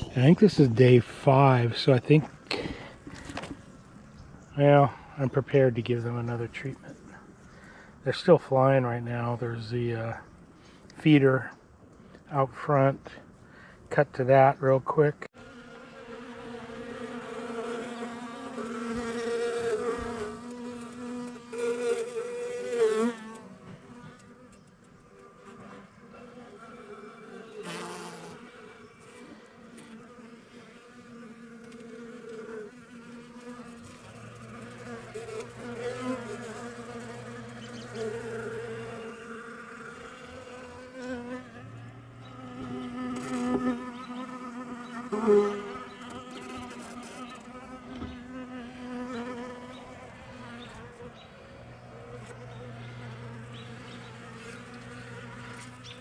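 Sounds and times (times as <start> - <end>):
honeybees buzzing: 0.0 - 10.2, 14.4 - 56.0.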